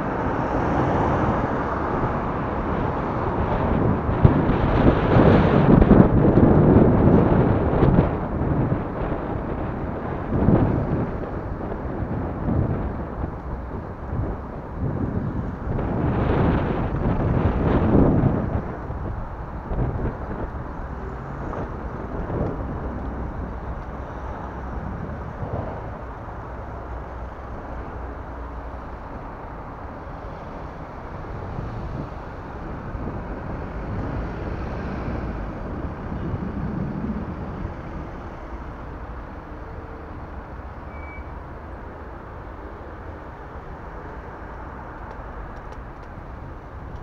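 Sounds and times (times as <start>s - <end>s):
road traffic noise: 0.0s - 47.0s
wind rumbling on microphone: 0.0s - 47.0s.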